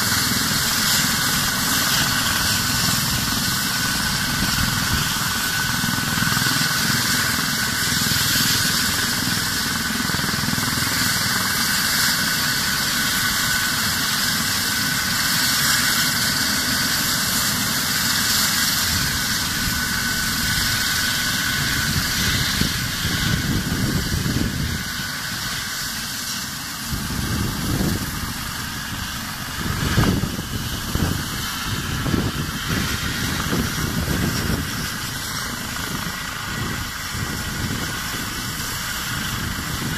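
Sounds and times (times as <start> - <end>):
wind buffeting microphone: 0.0 - 11.5, 17.5 - 25.8, 26.8 - 39.9
helicopter rotor rushing: 0.0 - 39.9
helicopter turbine whine: 0.0 - 39.9.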